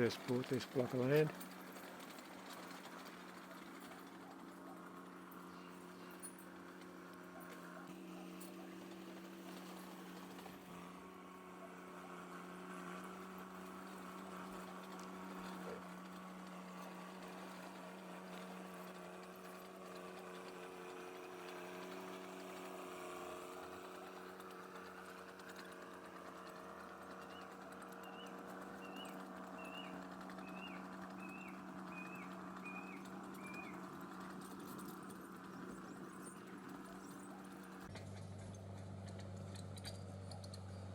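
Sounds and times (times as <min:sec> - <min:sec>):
engine humming: 0:00.0 - 0:40.9.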